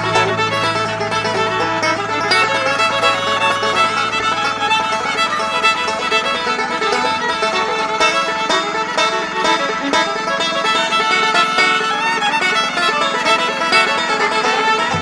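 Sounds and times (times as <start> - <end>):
bluegrass music with fiddle and banjo: 0.0 - 15.0.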